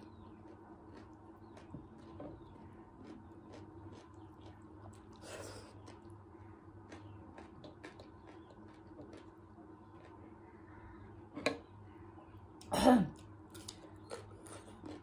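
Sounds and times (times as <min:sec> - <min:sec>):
person chewing food: 0:00.0 - 0:10.4, 0:13.2 - 0:15.0.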